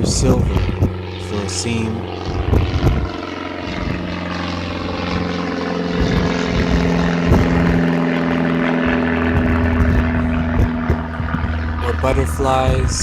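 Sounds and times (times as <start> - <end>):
engine drone: 0.0 - 13.0
held low tones: 0.0 - 13.0.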